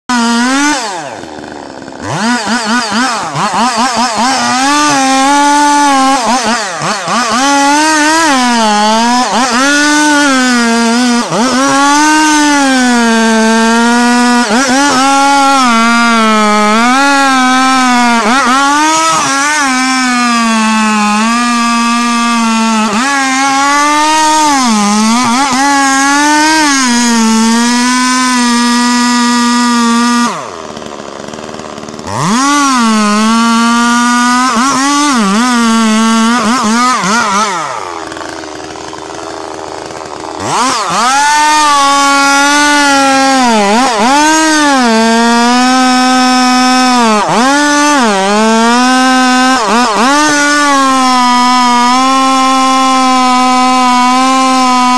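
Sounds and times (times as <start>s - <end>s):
chainsaw cutting wood: 0.1s - 54.9s.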